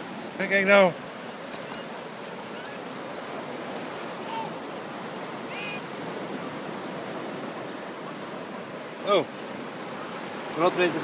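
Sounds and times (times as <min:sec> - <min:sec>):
surf washing on shore: 0:00.0 - 0:11.0.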